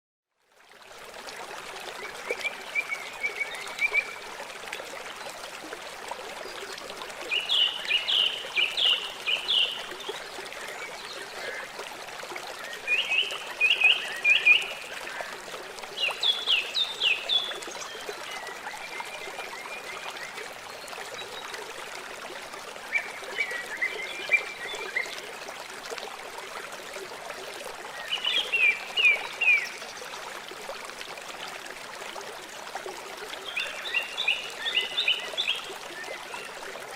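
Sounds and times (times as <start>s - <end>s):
river water flowing: 0.4s - 36.9s.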